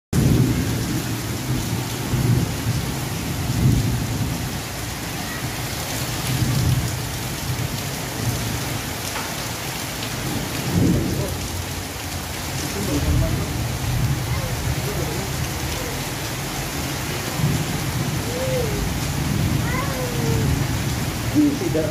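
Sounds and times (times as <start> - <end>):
heavy rain on tin roofs: 0.1 - 21.9.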